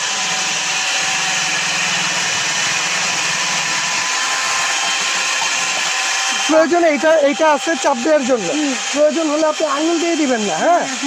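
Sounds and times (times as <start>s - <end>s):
food processor motor whirring: 0.0s - 11.0s.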